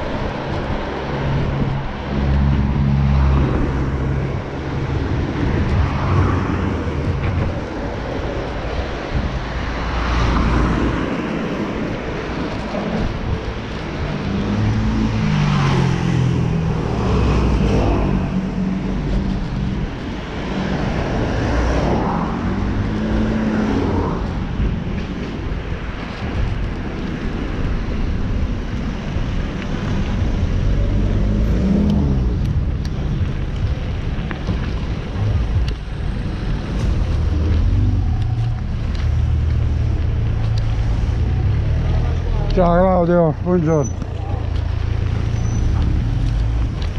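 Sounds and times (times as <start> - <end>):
car engines passing: 0.0 - 46.9
wind rumble on microphone: 0.0 - 46.9.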